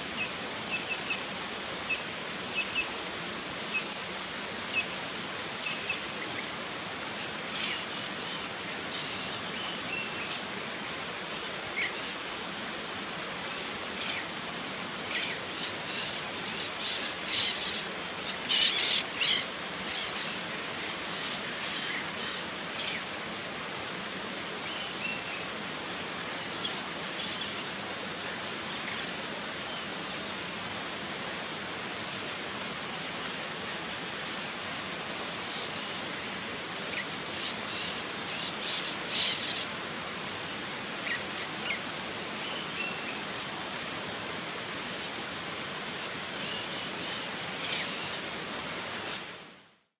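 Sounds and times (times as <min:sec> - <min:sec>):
background hiss: 0:00.0 - 0:49.9.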